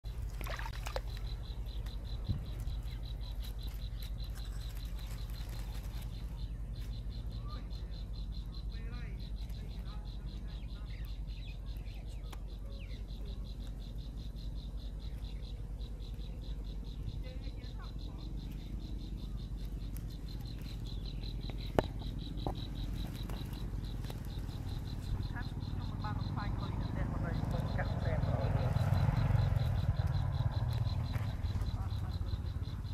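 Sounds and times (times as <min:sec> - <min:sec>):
insect chirping: 0:00.0 - 0:32.9
low steady rumble: 0:00.0 - 0:32.9
nestlings begging cheeps: 0:00.1 - 0:32.9.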